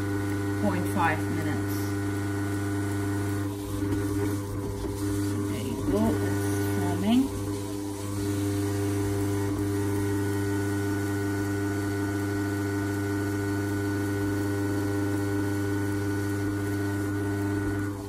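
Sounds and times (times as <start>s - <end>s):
grinder motor humming: 0.0s - 18.0s.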